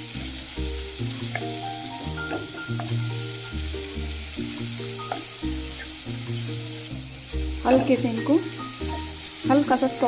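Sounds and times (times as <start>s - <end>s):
background music: 0.0s - 10.0s
onions sizzling in oil: 0.0s - 10.0s.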